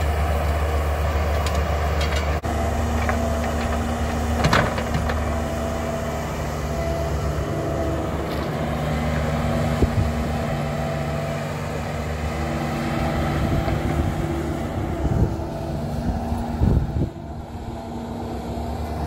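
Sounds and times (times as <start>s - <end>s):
diesel engine under load: 0.0s - 19.0s.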